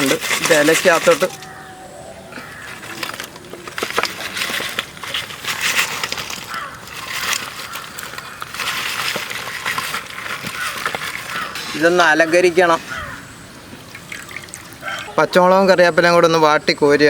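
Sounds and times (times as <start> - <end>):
fried chicken crackling and rustling: 0.0 - 1.6, 2.3 - 15.2.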